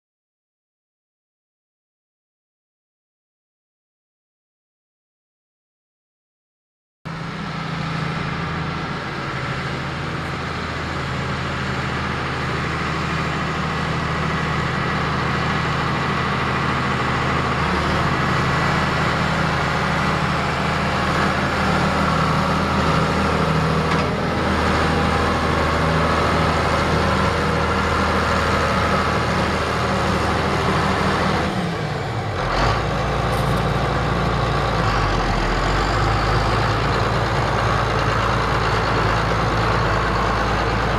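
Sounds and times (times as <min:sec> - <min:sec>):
tractor diesel engine running: 0:07.1 - 0:40.9.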